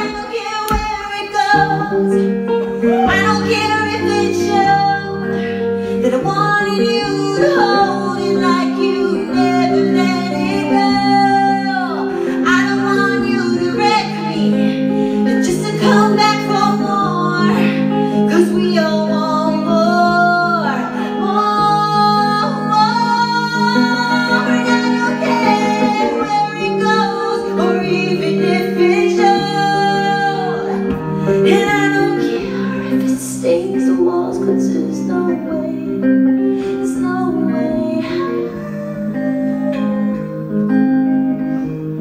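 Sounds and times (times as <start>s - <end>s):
woman singing: 0.0s - 41.8s
clean electric guitar chords: 0.0s - 42.0s.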